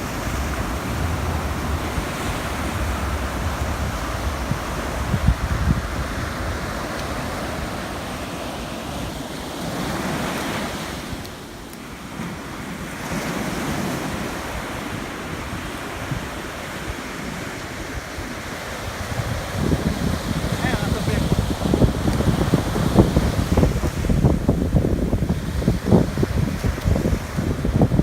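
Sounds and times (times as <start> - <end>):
ocean surf washing on beach: 0.0 - 28.0
wind on microphone: 0.0 - 28.0.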